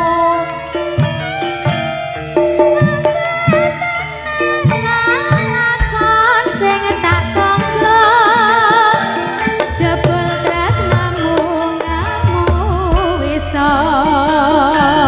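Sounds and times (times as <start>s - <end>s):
drum strokes: 0.9s - 15.0s.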